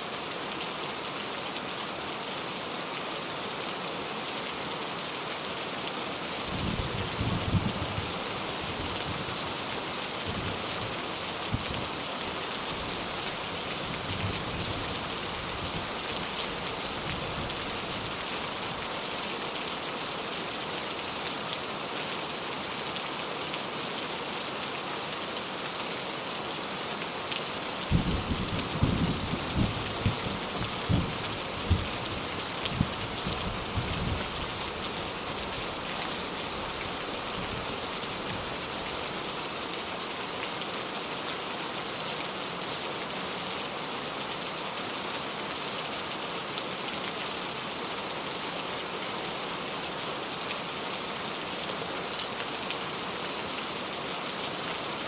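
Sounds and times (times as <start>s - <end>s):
rain patter: 0.0s - 55.0s.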